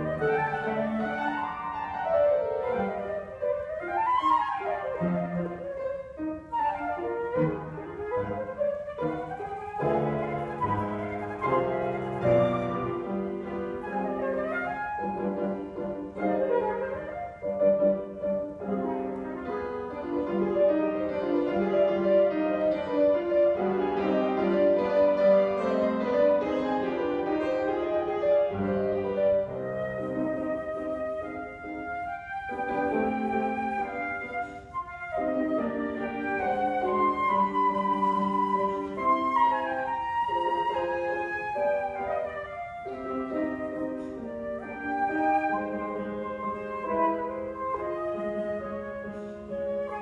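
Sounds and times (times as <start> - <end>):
flute melody: 0.0 - 50.0
piano chords: 0.0 - 50.0.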